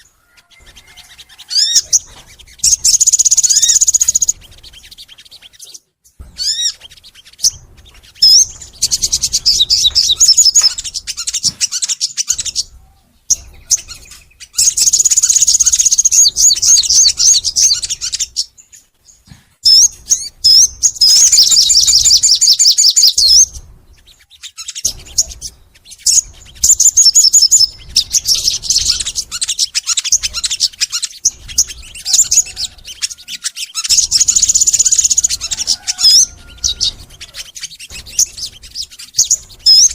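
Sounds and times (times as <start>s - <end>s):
bird singing high trills: 0.0s - 39.9s.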